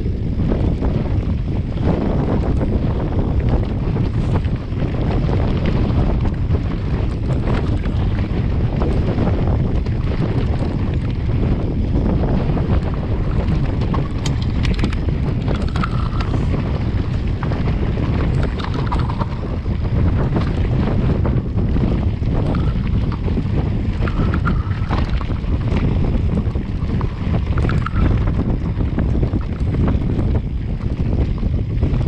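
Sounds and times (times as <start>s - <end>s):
bike clicks and rattles: 0.0s - 32.0s
wind buffeting microphone: 0.0s - 32.0s.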